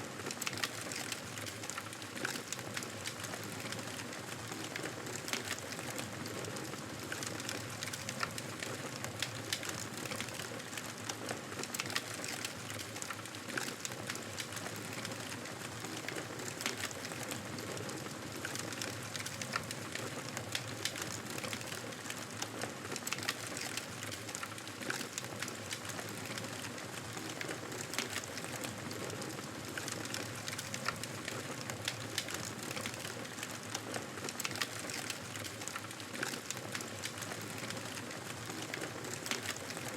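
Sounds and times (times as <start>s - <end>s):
campfire crackling and popping: 7.0s - 22.2s, 22.9s - 39.9s.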